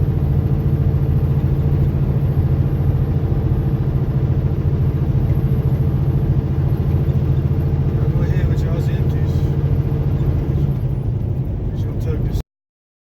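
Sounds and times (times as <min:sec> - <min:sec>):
diesel truck engine drone: 0:00.0 - 0:12.4.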